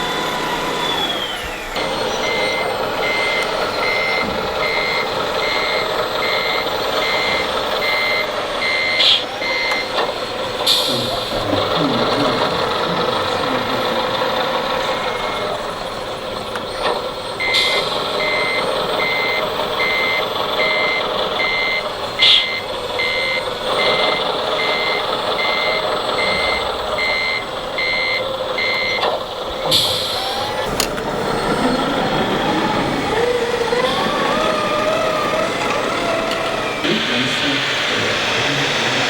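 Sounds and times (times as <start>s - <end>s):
reversing beeper: 0.0s - 16.1s, 16.7s - 39.0s
model engine sound: 0.0s - 39.0s.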